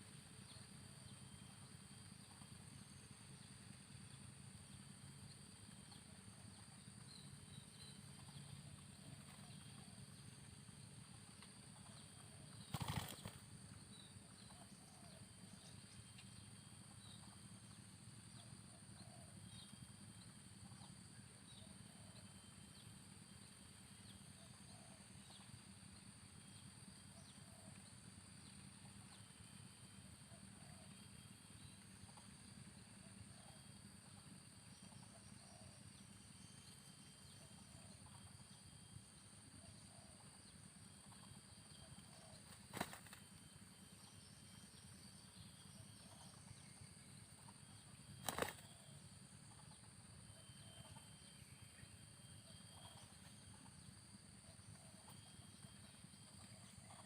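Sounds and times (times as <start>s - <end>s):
high insect drone: 0.0s - 57.0s
steady high hum: 0.0s - 57.0s.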